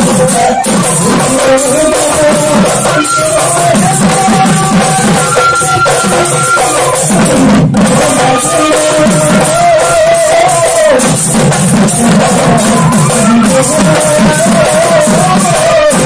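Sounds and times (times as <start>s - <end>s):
dhol drums beating: 0.0s - 16.0s.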